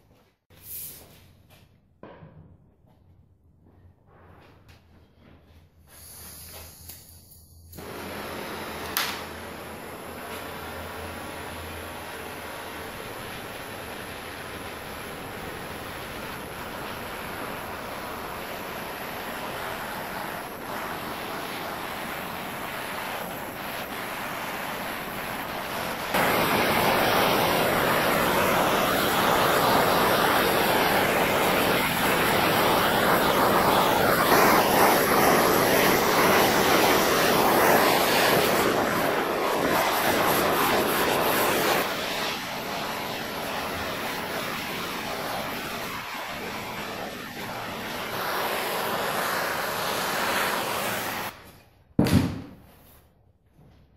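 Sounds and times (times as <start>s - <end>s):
blowtorch hissing: 5.9s - 51.4s.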